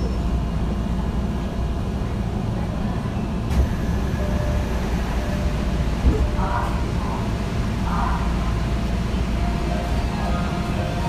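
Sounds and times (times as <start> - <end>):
subway train rumble and hum: 0.0 - 11.0.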